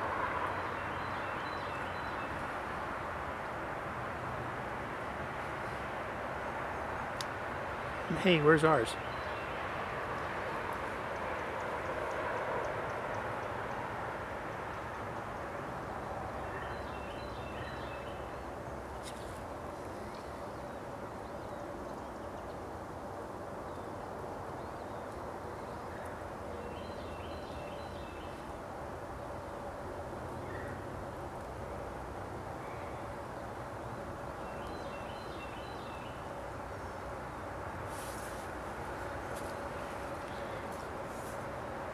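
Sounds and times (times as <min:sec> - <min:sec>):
rushing background noise: 0:00.0 - 0:41.9.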